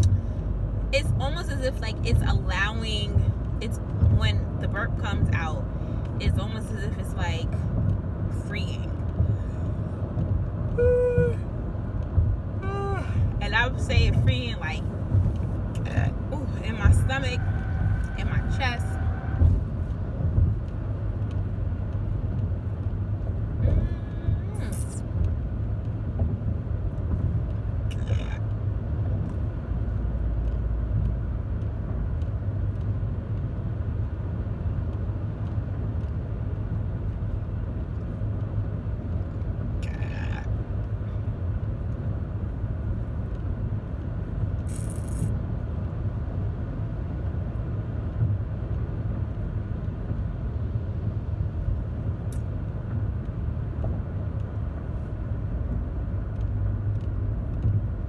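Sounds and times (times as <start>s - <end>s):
car cabin rumble: 0.0s - 58.0s.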